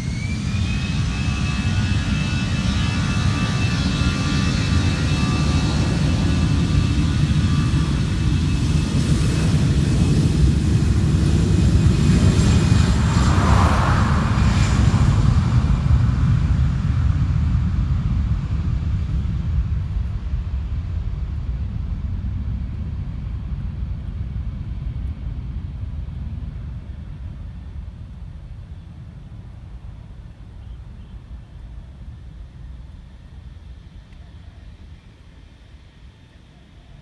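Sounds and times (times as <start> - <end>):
jet engine high whine: 0.0 - 37.0
jet engines low rumble: 0.0 - 37.0.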